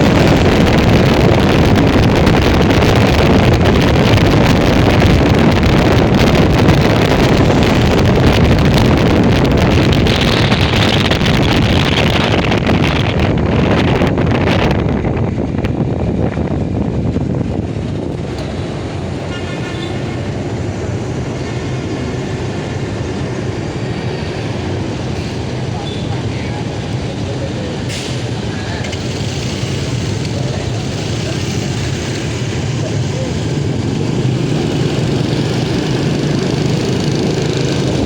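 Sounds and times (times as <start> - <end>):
motorcycle engine: 0.0 - 38.0
road noise: 0.0 - 38.0
wind rushing over microphone: 0.0 - 38.0.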